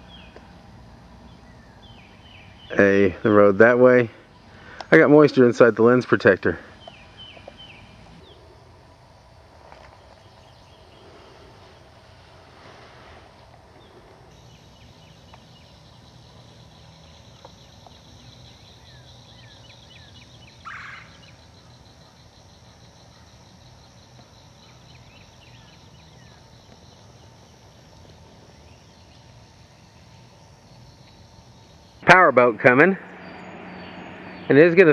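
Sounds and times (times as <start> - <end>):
birds chirping and trilling: 0.0 - 8.6, 9.9 - 11.8, 13.7 - 34.9
low rush of background noise: 0.0 - 34.9.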